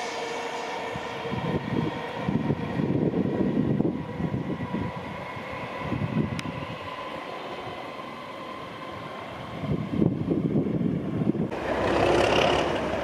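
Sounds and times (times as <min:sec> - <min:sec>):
steady whine: 0:00.0 - 0:13.0
train wheels rumbling on rails: 0:00.0 - 0:13.0.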